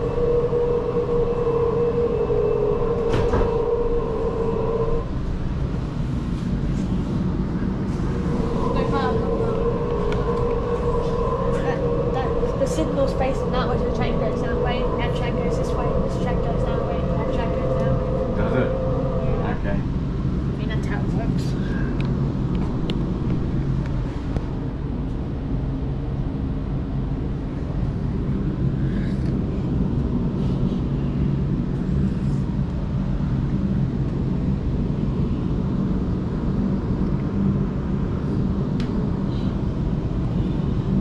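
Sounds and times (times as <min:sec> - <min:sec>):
low hum: 0:00.0 - 0:41.0
train running rumble: 0:00.0 - 0:41.0.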